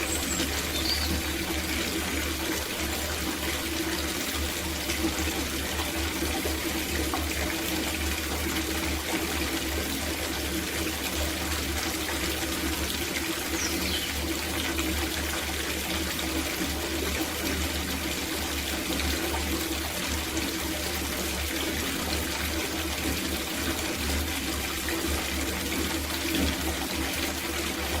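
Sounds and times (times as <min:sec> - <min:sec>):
tap water running into bathtub: 0:00.0 - 0:28.0.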